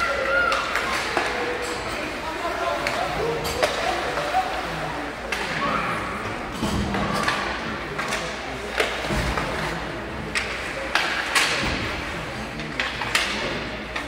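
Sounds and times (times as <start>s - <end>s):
hockey sticks and puck clacking: 0.0s - 14.0s.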